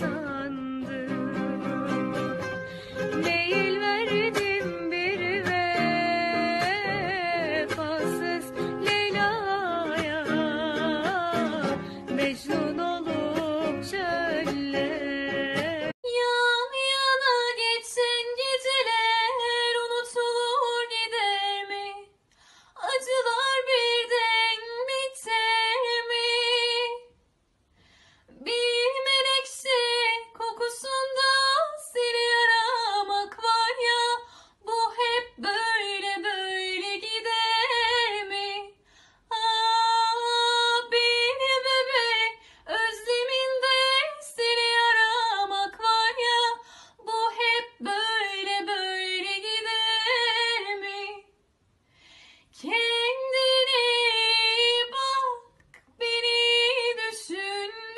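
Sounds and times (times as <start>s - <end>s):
woman singing unaccompanied: 0.0s - 22.1s, 22.8s - 27.1s, 28.4s - 51.3s, 52.6s - 57.9s.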